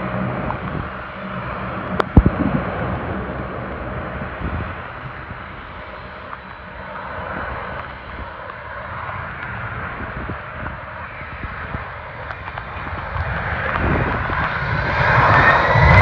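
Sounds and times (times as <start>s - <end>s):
jet engine rumble: 0.0s - 16.0s
wind buffeting microphone: 0.0s - 16.0s.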